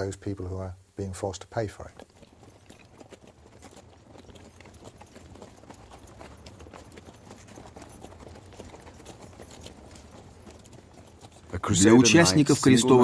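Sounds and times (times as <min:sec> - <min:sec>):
horse hooves clip-clop: 0:01.0 - 0:13.0.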